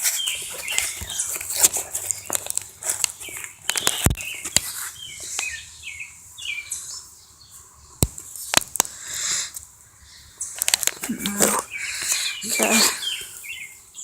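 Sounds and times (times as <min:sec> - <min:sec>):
bird chirps: 0:00.0 - 0:02.5, 0:03.1 - 0:09.4, 0:10.0 - 0:14.0.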